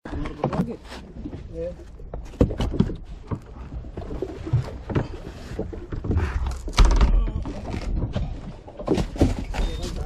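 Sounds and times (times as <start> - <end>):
knocks and thumps on boat: 0.0 - 10.0.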